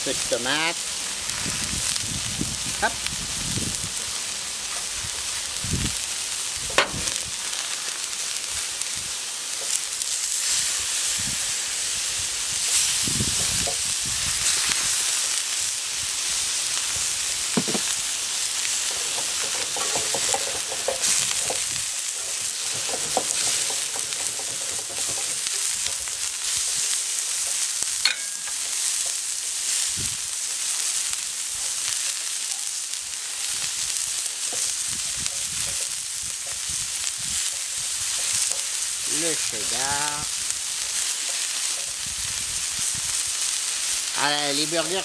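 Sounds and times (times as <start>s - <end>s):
burger patties sizzling on griddle: 0.0s - 45.0s.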